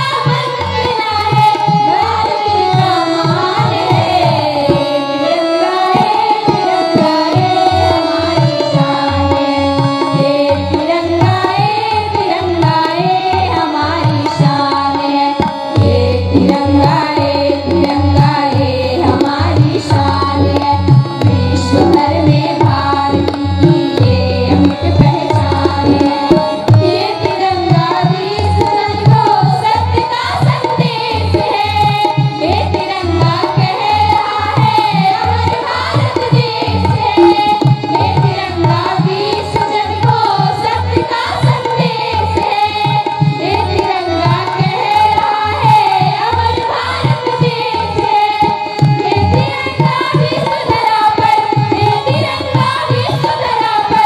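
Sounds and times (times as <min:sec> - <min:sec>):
person singing devotional song: 0:00.0 - 0:54.0.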